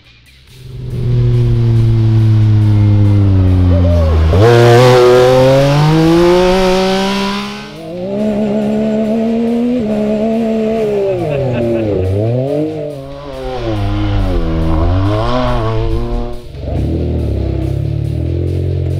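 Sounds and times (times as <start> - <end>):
off-road vehicle engine revving: 0.5 - 18.9.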